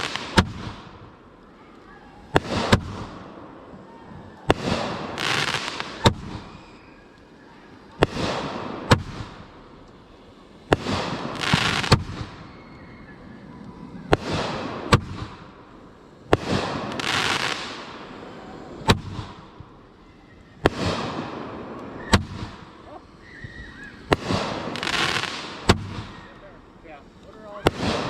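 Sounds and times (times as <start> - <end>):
fireworks bangs: 0.0 - 28.0
fireworks crackling hiss: 0.0 - 28.0.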